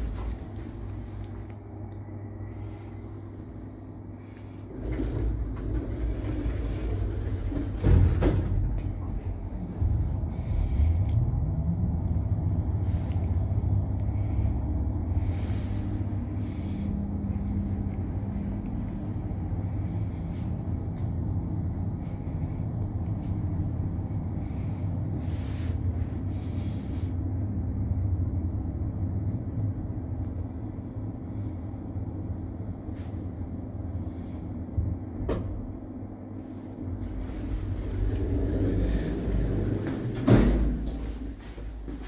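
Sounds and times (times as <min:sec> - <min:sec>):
lift drive humming: 0:00.0 - 0:30.3, 0:35.3 - 0:42.0.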